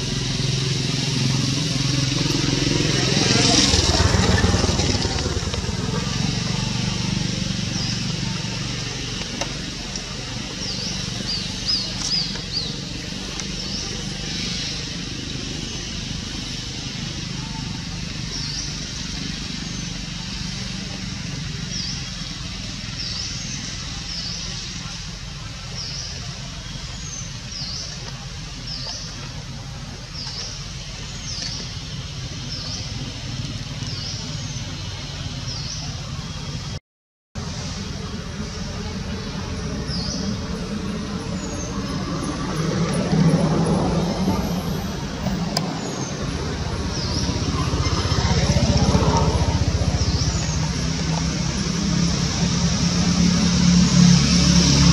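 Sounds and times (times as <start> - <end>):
low engine-like hum: 0.0 - 36.8, 37.4 - 54.9.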